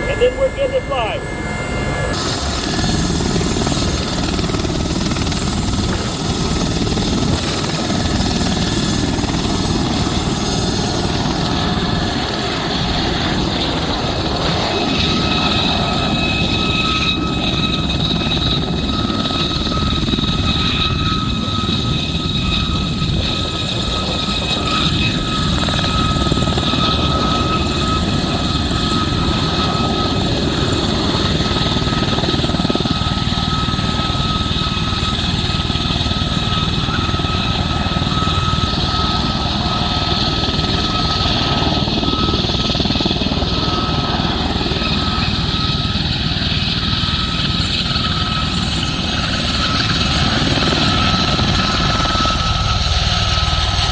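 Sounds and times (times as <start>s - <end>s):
helicopter rotor noise: 0.0s - 53.9s
helicopter turbine whining: 0.0s - 53.9s.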